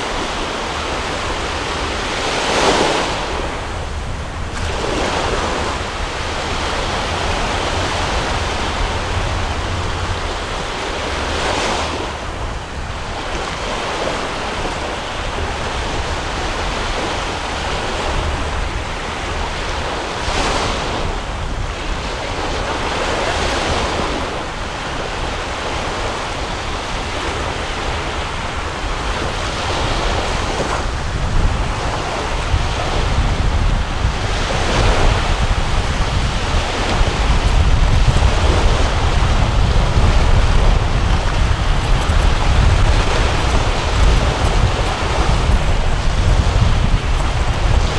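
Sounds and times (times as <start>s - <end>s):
sea surf washing: 0.0s - 47.9s
wind buffeting microphone: 0.0s - 47.9s.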